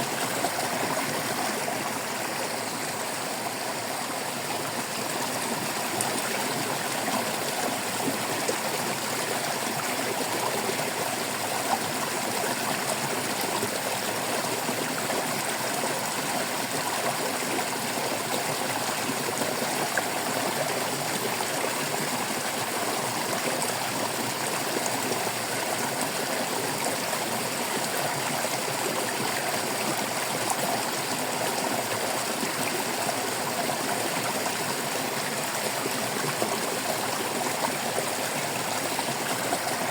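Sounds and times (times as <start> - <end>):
shallow stream trickling: 0.0 - 39.9.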